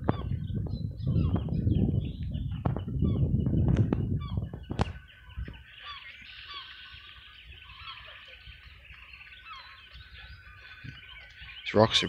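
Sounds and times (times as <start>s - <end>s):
flock of birds chirping: 0.0s - 12.0s
wind buffeting microphone: 0.0s - 12.0s.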